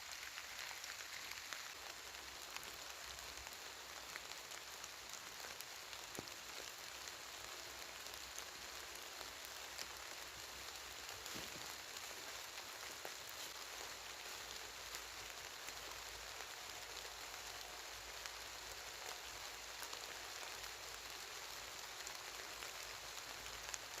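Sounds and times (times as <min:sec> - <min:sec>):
rain hissing: 0:00.0 - 0:24.0
raindrops ticking: 0:00.1 - 0:24.0.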